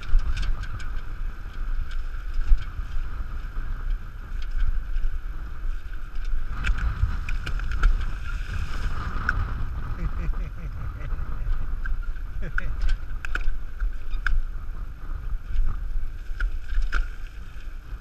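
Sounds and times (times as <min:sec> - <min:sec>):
wheels rolling on sand: 0:00.0 - 0:18.0
wind on microphone: 0:00.0 - 0:18.0.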